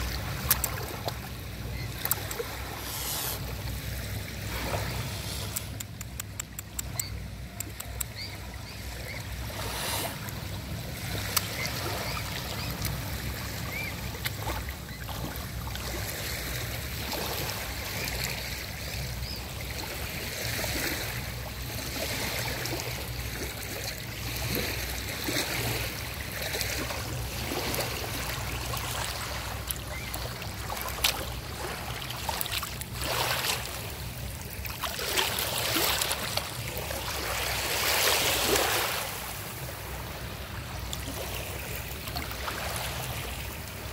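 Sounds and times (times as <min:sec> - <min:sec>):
small splashes: 0:00.0 - 0:21.2, 0:21.9 - 0:43.6
water lapping on stony shore: 0:00.0 - 0:43.9.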